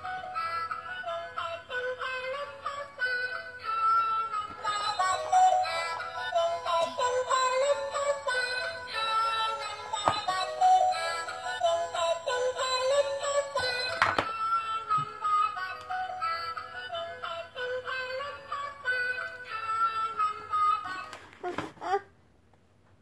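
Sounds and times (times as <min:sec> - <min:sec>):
tinny electronic toy song: 0:00.0 - 0:21.1.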